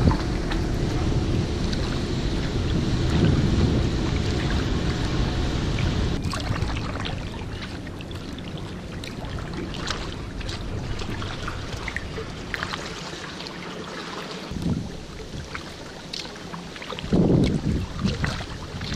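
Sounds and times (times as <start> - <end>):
wind rumble on microphone: 0.0 - 13.2, 14.4 - 18.9.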